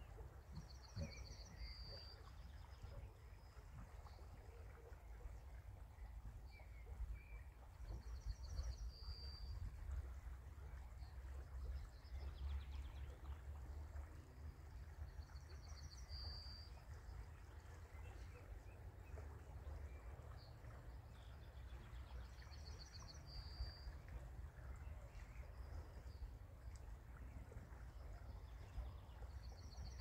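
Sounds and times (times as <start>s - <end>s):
songbird singing: 0.0s - 9.7s, 15.2s - 30.0s.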